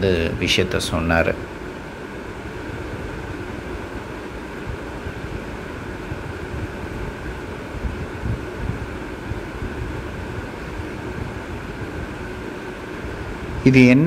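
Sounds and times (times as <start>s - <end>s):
background rumble and hiss: 0.0s - 14.0s
faint steady hum: 0.0s - 14.0s
low wind gusts: 0.0s - 14.0s.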